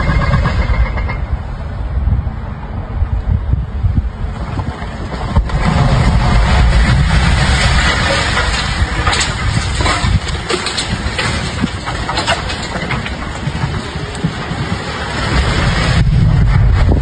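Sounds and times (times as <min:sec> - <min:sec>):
chimney collapsing rumble: 0:03.4 - 0:17.0.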